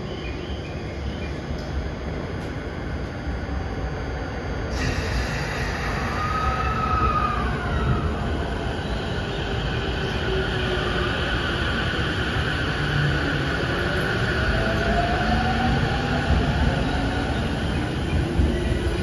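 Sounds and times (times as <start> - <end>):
train wheels rumbling on rails: 0.0 - 19.0
train whining and squealing: 0.0 - 19.0.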